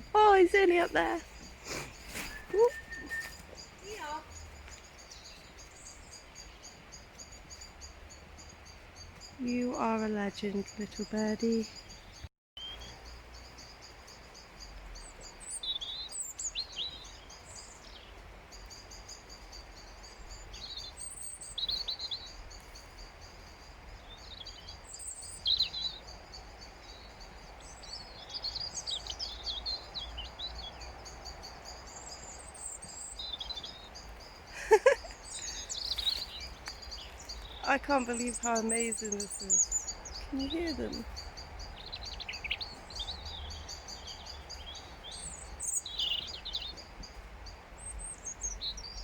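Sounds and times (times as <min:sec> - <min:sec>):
robin singing: 0:00.0 - 0:49.0.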